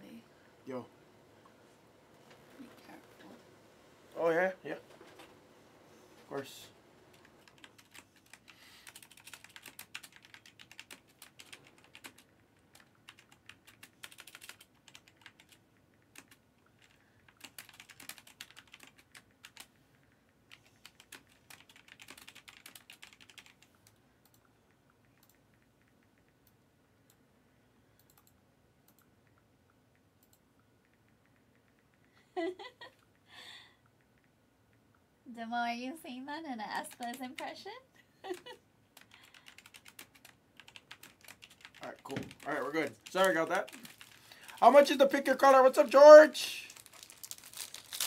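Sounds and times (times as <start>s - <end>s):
faint keyboard typing: 6.2s - 35.1s, 36.7s - 37.6s, 38.2s - 48.0s.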